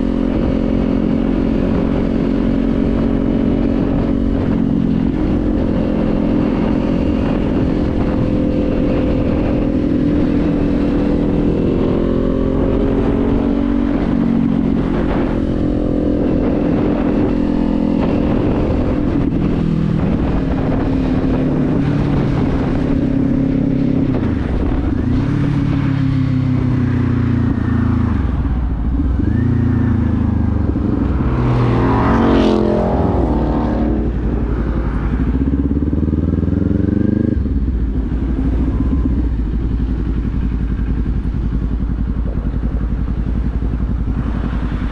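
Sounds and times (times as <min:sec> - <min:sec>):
motorcycle engine running: 0:00.0 - 0:44.9
wind rumble on microphone: 0:00.0 - 0:44.9.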